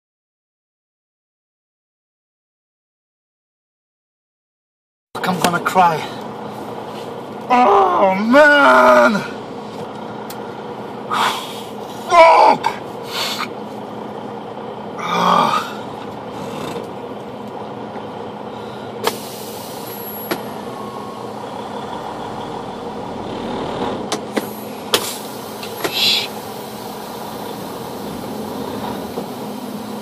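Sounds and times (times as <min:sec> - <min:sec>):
diesel engine hum: 0:05.2 - 0:30.0.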